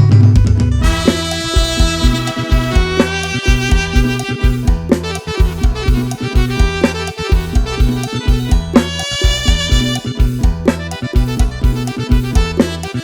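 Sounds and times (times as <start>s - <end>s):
band music with drum beat: 0.0s - 13.0s.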